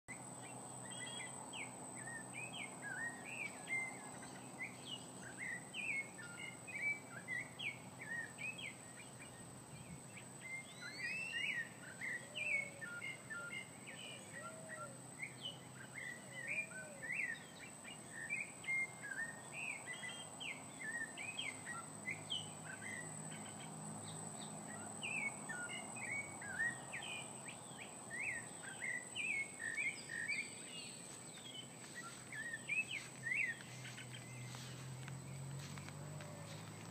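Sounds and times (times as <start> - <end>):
birds chirping: 0.2 - 36.9.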